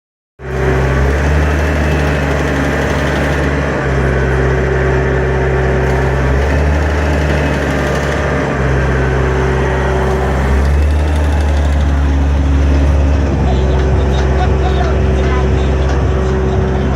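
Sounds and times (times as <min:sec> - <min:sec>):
diesel engine running steadily: 0:00.4 - 0:16.9.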